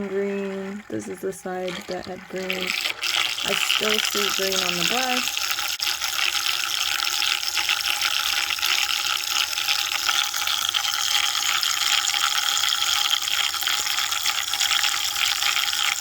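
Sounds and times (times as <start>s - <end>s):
water churning in small machine: 0.0s - 16.0s.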